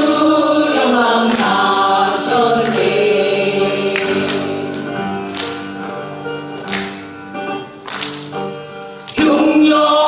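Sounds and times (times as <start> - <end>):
sustained pitched accompaniment: 0.0 - 8.8.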